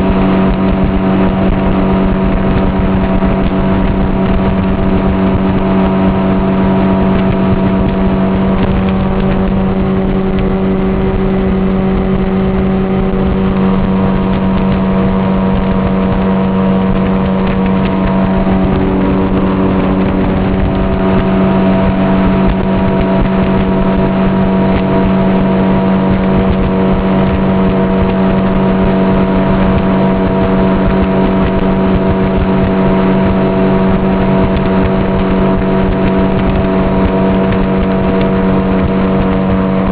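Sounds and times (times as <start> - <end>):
boat motor humming: 0.0 - 39.9
rushing water noise: 0.0 - 39.9.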